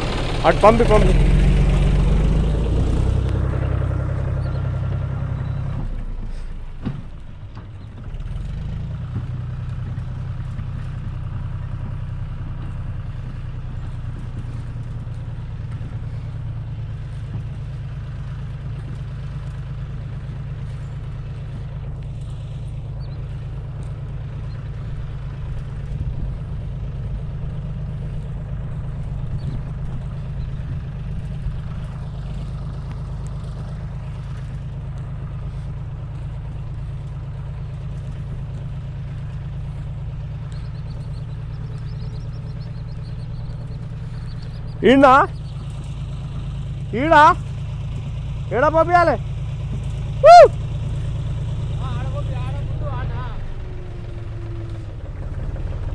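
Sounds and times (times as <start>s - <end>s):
heavy vehicle engine humming: 0.0s - 55.9s.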